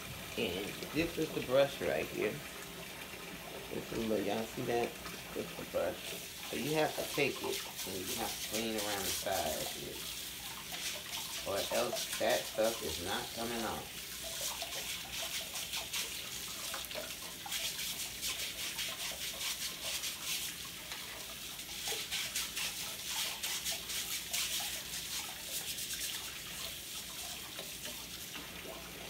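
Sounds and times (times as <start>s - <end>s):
brush scrubbing: 3.8s - 28.5s.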